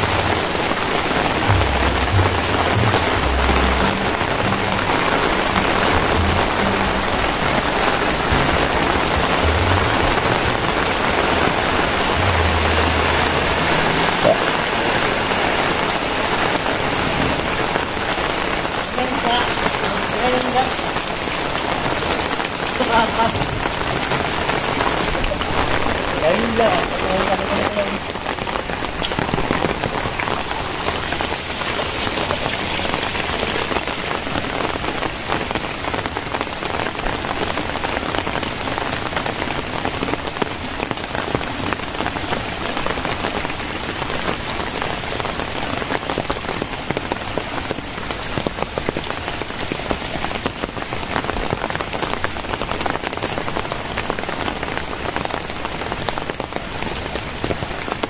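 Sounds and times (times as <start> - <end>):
very heavy rain: 0.0 - 58.0.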